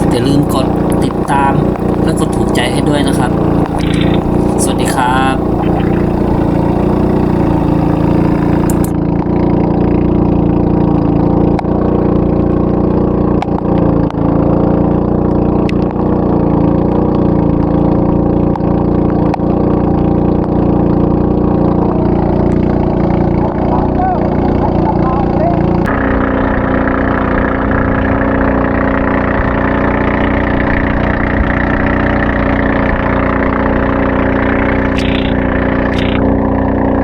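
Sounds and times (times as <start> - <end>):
boat engine droning: 0.0 - 37.0.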